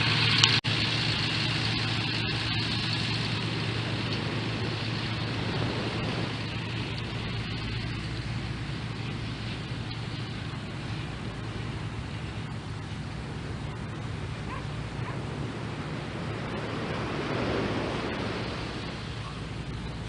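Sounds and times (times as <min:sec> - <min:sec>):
tractor diesel engine humming: 0:00.0 - 0:20.0.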